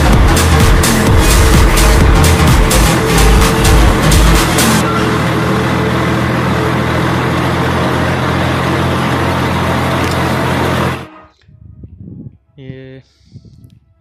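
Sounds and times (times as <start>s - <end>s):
tractor diesel engine under load: 0.0s - 11.3s.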